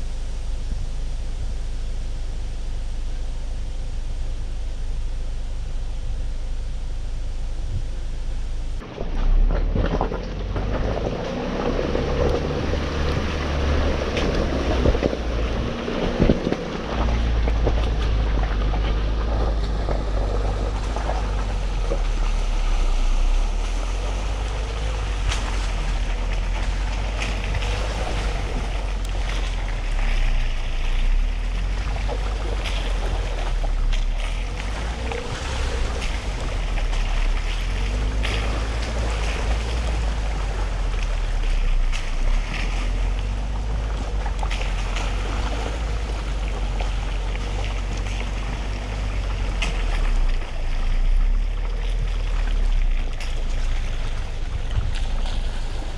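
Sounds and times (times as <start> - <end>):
pickup truck rumble off-road: 0.0 - 55.9
wind noise on microphone: 3.3 - 55.9.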